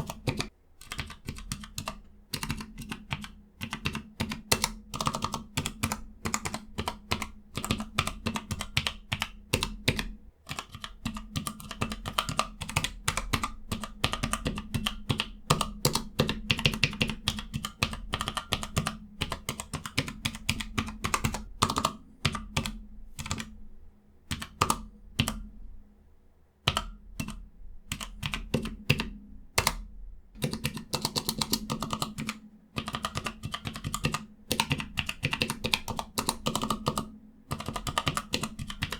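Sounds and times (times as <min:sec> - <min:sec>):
keyboard keys clicking: 0:00.0 - 0:23.5, 0:24.3 - 0:25.4, 0:26.7 - 0:29.8, 0:30.4 - 0:38.9.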